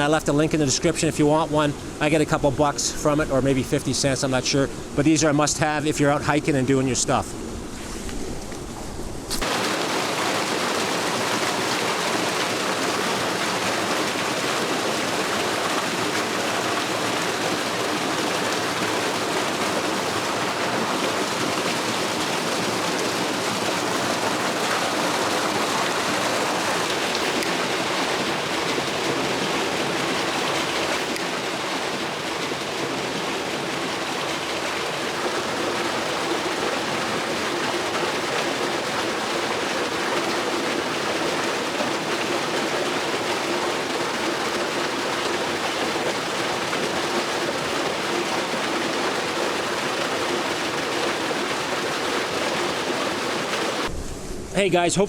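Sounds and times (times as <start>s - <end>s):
waterfall rushing: 9.4s - 54.0s.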